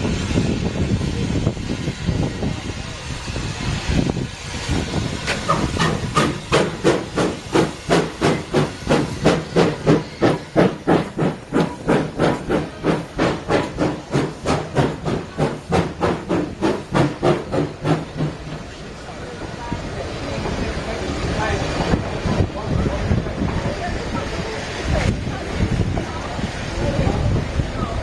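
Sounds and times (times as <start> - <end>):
steam locomotive chuffing: 0.0 - 28.0.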